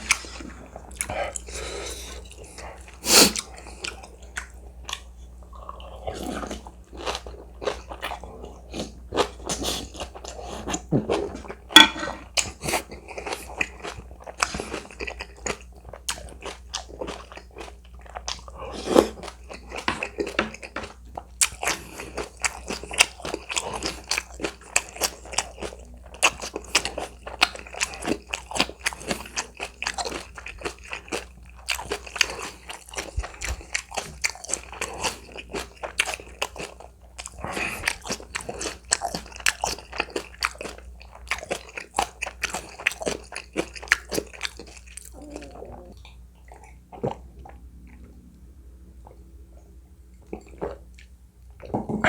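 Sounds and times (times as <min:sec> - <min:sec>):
crunchy food chewing: 0:00.0 - 0:48.3.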